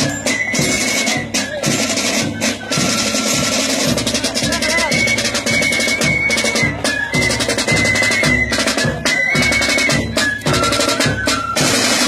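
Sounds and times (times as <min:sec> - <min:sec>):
snare drum rolls: 0:00.0 - 0:12.0.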